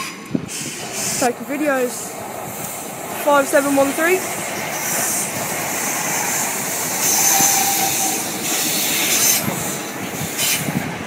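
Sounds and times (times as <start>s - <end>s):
train wheels hissing on rails: 0.0s - 11.0s.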